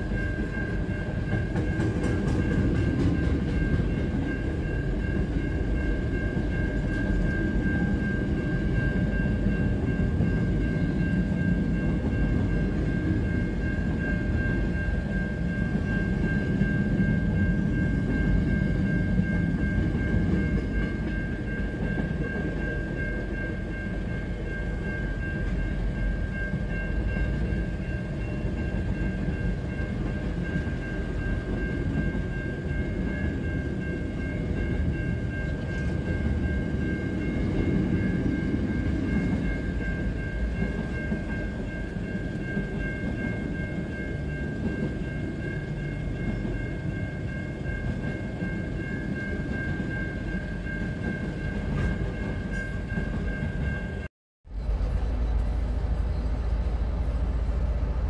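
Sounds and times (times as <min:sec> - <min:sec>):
train wagons rumbling on rails: 0:00.0 - 0:58.0
high-pitched crossing bell ringing: 0:02.4 - 0:54.1.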